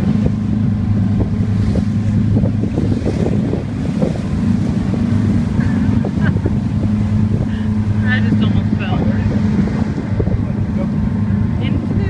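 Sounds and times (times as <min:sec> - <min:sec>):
boat engine humming: 0:00.0 - 0:12.0
rushing water: 0:00.0 - 0:12.0
wind buffeting microphone: 0:00.0 - 0:12.0.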